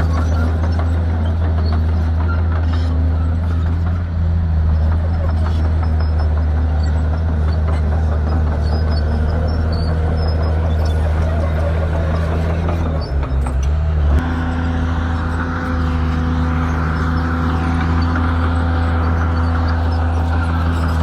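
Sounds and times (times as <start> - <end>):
bulldozer diesel engine running: 0.0 - 21.0.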